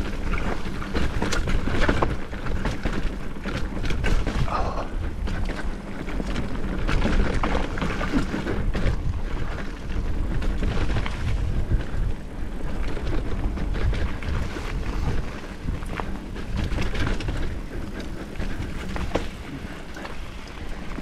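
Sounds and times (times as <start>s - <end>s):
bike rattling over bumps: 0.0s - 21.0s
wind and tyres rumbling: 0.0s - 21.0s.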